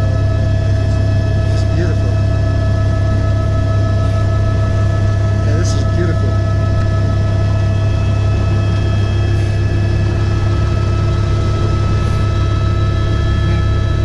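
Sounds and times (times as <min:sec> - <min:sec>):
constant whining tones: 0:00.0 - 0:14.0
helicopter cockpit drone: 0:00.0 - 0:14.0.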